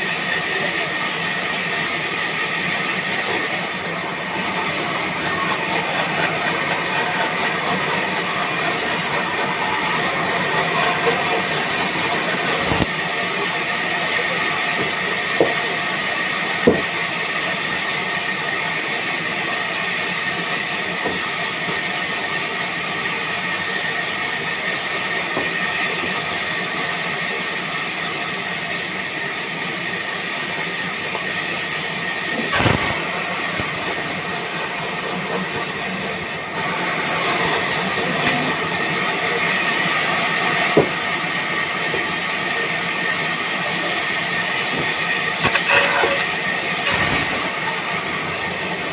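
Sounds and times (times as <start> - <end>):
sawmill machinery hissing: 0.0 - 48.9.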